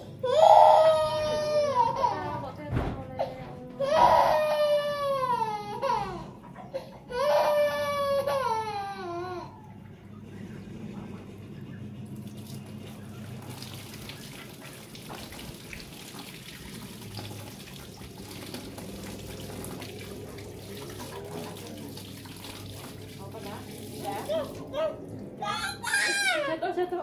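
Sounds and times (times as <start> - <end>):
water running: 0.0 - 10.0, 12.0 - 27.0
low steady hum: 0.0 - 27.0.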